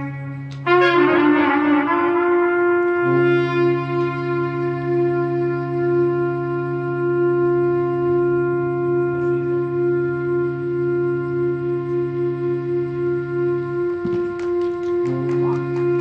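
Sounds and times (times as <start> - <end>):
clarinet holding long notes: 0.0 - 16.0
low sustained tone: 0.0 - 16.0
trumpet holding long notes: 0.0 - 16.0.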